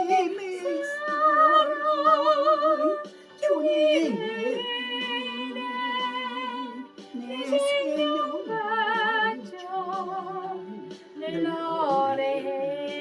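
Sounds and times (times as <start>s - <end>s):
karaoke backing track: 0.0s - 13.0s
woman singing with vibrato: 0.1s - 13.0s.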